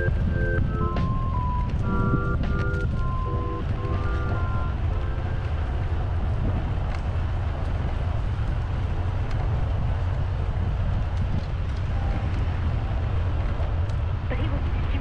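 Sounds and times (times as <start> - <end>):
bicycle tyre road noise: 0.0 - 15.0
wind rumble on microphone: 0.0 - 15.0.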